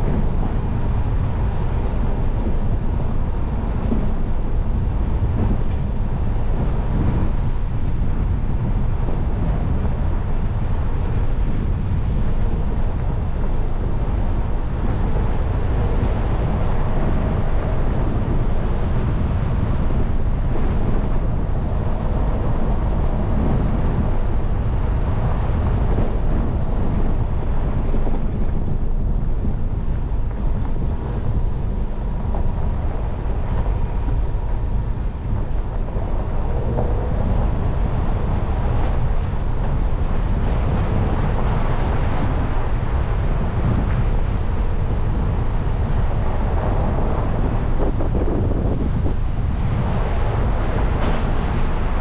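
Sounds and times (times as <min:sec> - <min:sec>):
vehicle engine rumble: 0:00.0 - 0:52.0
wind noise on microphone: 0:00.0 - 0:52.0.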